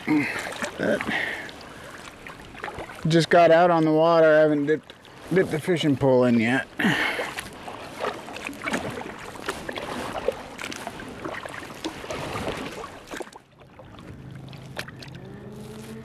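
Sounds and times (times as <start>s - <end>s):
paddle splashes and knocks: 0.0s - 16.0s
water splashing against kayak hull: 0.0s - 16.0s.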